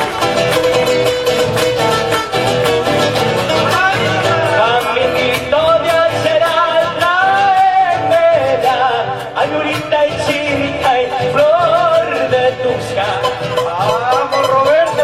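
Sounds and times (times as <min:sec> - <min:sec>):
guitars playing: 0:00.0 - 0:15.0.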